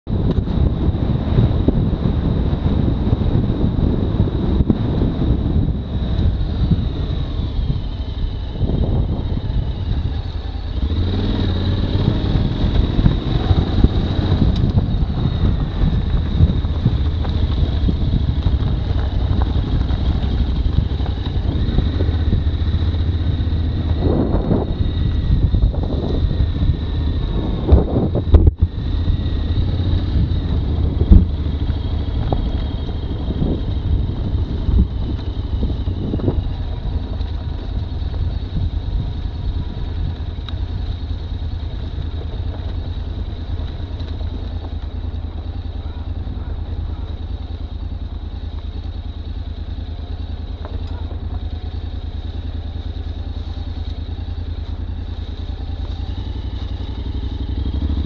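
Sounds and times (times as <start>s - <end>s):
motorcycle engine running: 0.0s - 58.0s
knocks and clatters on dirt trail: 6.1s - 58.0s.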